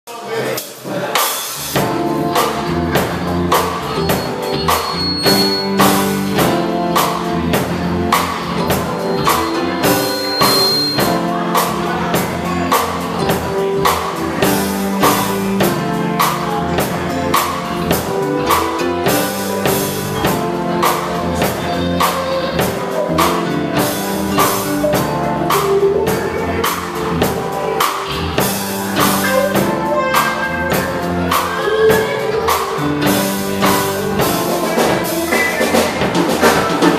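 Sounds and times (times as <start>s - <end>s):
funk band playing: 0.2s - 36.9s
drum strokes: 0.6s - 36.9s.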